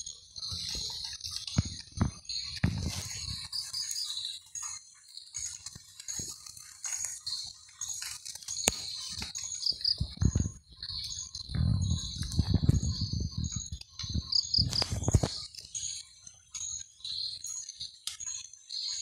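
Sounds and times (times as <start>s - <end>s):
bird chirps: 0.0s - 19.0s
insects droning: 0.0s - 19.0s.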